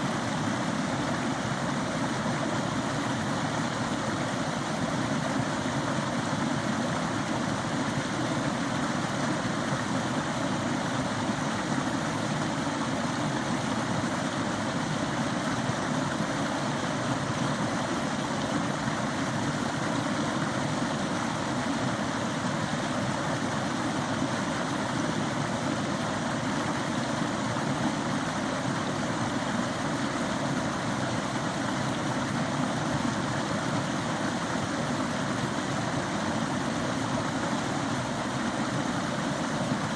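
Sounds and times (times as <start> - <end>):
stream flowing water: 0.0 - 39.9.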